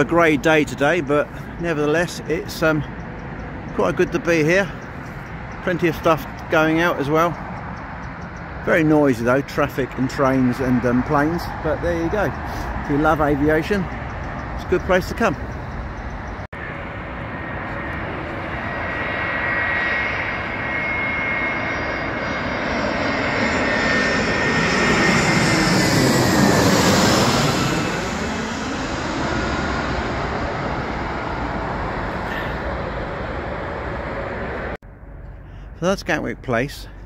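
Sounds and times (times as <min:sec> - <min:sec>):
jet engine whine: 0:00.0 - 0:35.8
jet airliner passing overhead: 0:00.0 - 0:37.0.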